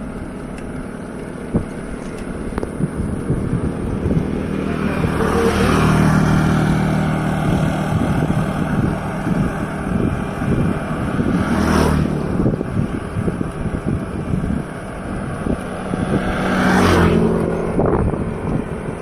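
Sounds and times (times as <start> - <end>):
vehicle engines passing: 0.0 - 19.0
wind rumbling on microphone: 0.0 - 19.0.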